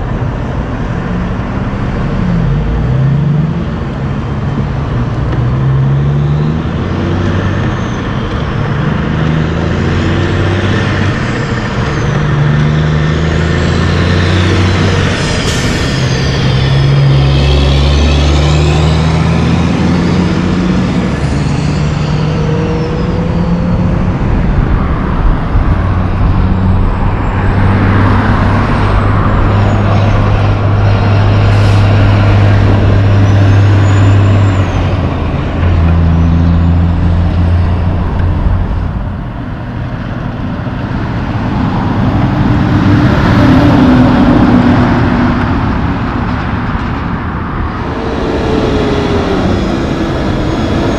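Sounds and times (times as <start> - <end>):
trucks driving past: 0.0 - 50.9.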